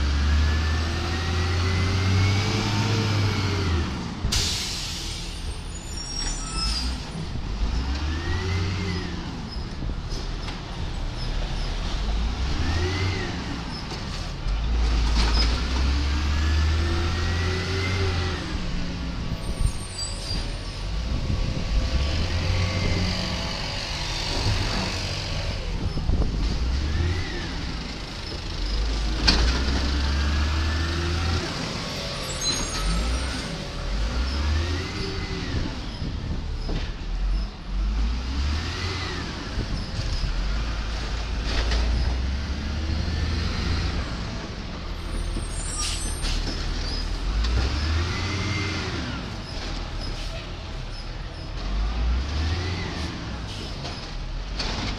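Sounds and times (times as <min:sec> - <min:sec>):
garbage truck engine: 0:00.0 - 0:54.9.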